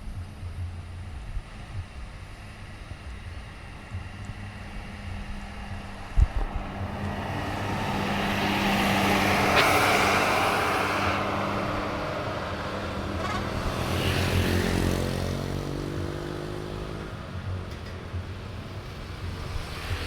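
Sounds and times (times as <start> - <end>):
vehicles driving past: 0.2 - 20.0.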